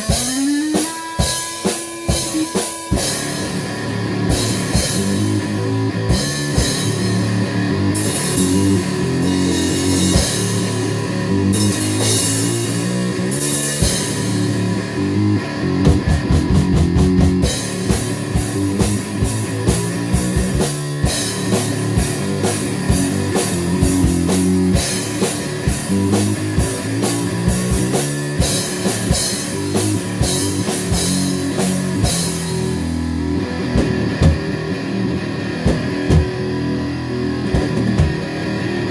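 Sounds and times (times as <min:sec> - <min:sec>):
rapid drum fill: 0:00.0 - 0:14.8, 0:15.8 - 0:34.7, 0:35.6 - 0:36.4, 0:37.5 - 0:38.4
heavy rock band playing: 0:00.0 - 0:38.9.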